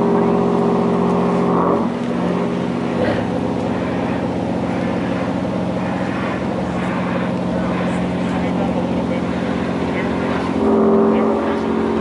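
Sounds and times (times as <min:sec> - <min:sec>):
marine diesel engine running: 0:00.0 - 0:12.0.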